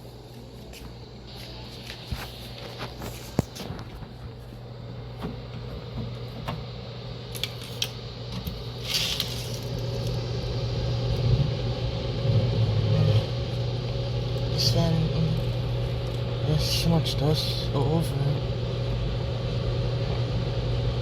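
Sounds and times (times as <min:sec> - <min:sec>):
electric fan motor humming: 0:00.0 - 0:21.0.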